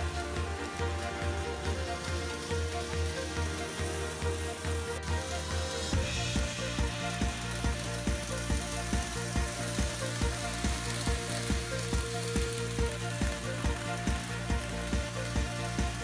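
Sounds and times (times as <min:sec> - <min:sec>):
model train motors rumbling: 0:00.0 - 0:16.0
wheels clicking over rail joints: 0:00.0 - 0:16.0.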